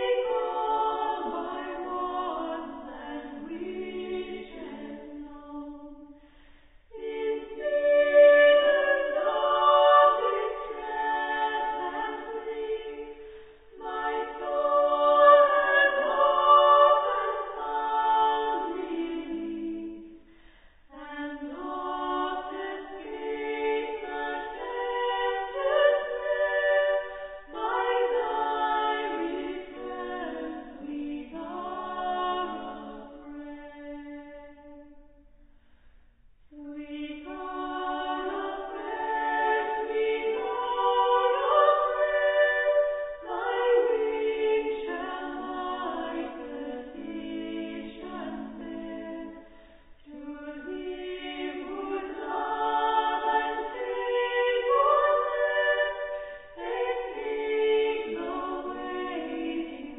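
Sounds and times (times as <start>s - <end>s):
a cappella choral singing: 0.0s - 35.6s, 36.4s - 59.9s.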